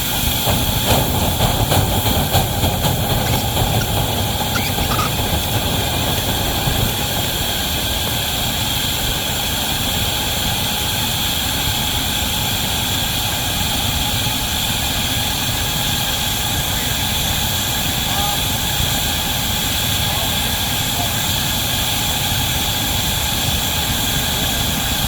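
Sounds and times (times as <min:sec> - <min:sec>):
continuous steam hiss: 0:00.0 - 0:25.0
steam train rumble: 0:00.0 - 0:25.0.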